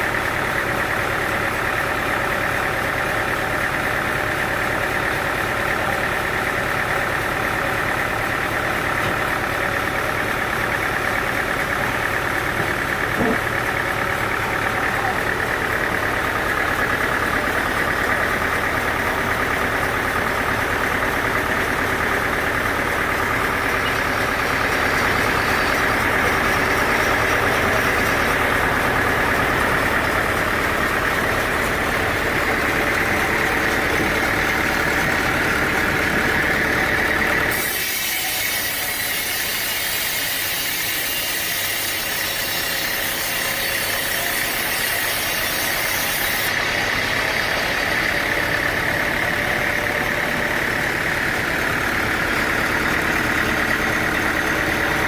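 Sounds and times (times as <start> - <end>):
sawmill engine whining: 0.0 - 55.0.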